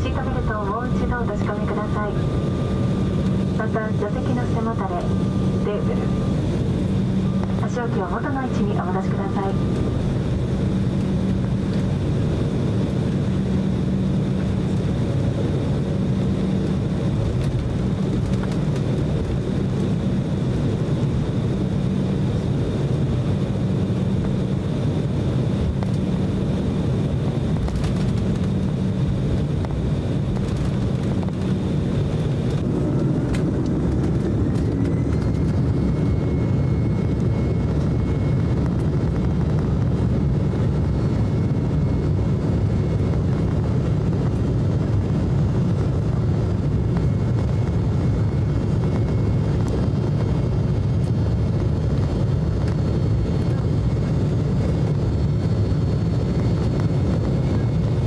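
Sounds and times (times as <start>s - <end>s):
jet engines humming with high whine: 0.0s - 58.0s.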